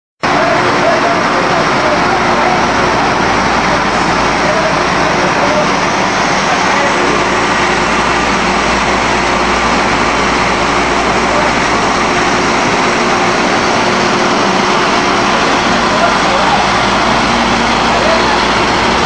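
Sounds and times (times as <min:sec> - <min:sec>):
production line machinery noise: 0:00.2 - 0:19.0.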